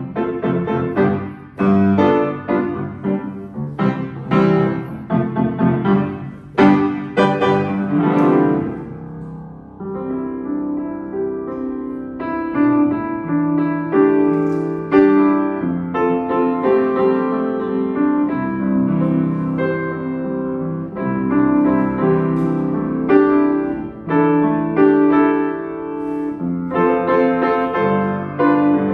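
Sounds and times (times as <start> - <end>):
upright piano playing: 0.0 - 28.9.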